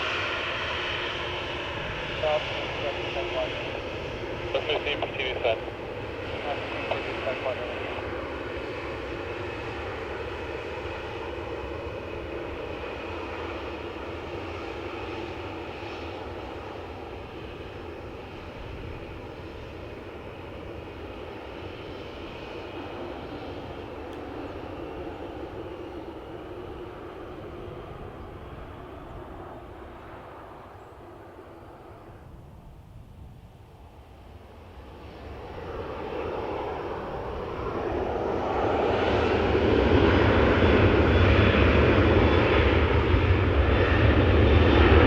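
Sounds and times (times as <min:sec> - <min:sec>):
jet engines droning: 0:00.0 - 0:45.0.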